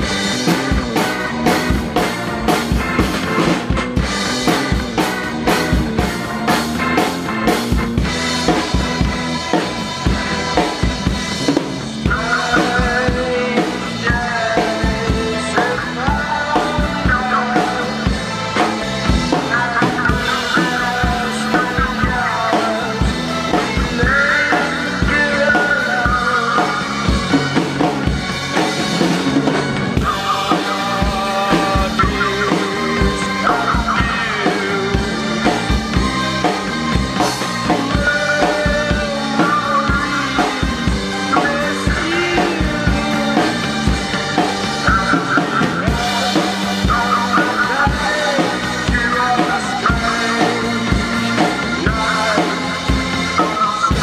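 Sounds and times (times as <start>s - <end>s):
drum kit playing: 0.0s - 54.0s
recorded song: 0.0s - 54.0s.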